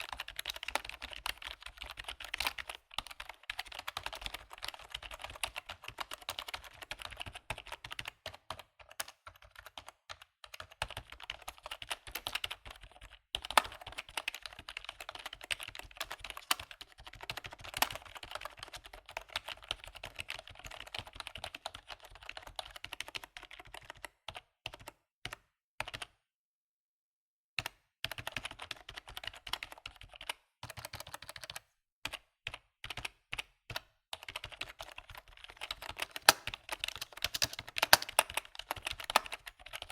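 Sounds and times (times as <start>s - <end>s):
computer keyboard typing: 0.0s - 26.1s, 28.1s - 39.9s.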